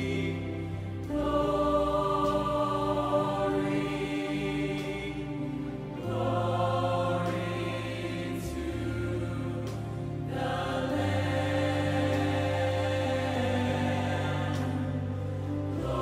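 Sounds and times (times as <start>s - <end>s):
choir singing a worship song: 0.0s - 16.0s.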